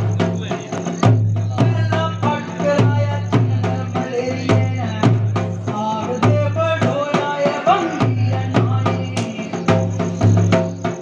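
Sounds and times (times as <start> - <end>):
drum beating steady rhythm: 0.0 - 11.0.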